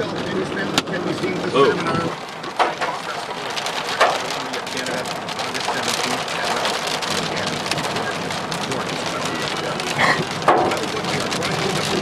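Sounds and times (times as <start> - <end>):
rain and hail on car roof: 0.0 - 12.0.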